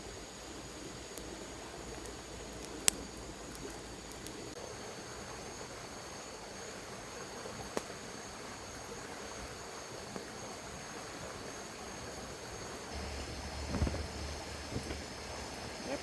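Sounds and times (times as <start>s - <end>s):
insects trilling: 0.0s - 16.0s
soft hiss: 0.0s - 16.0s.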